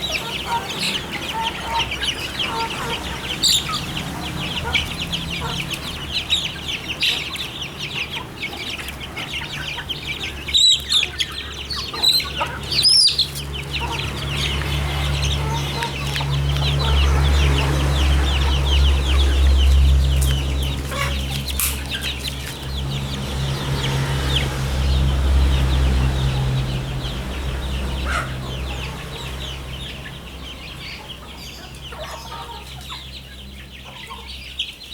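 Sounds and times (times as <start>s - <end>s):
chickens clucking and cheeping: 0.0s - 34.9s.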